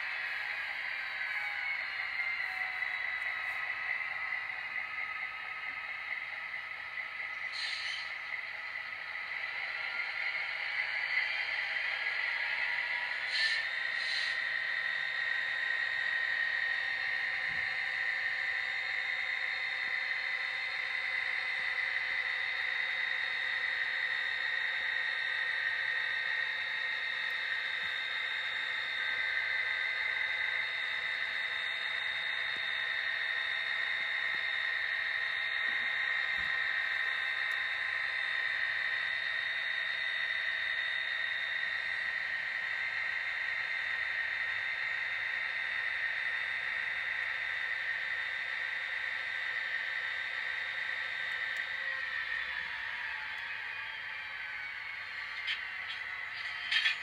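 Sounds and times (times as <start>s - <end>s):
model locomotive whine: 0.0s - 57.0s.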